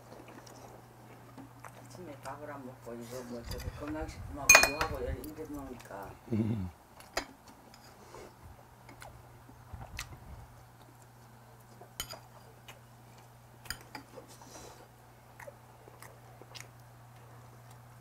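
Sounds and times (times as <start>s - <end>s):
quiet chewing: 0.0s - 3.7s, 6.9s - 18.0s
steady low hum: 0.0s - 18.0s.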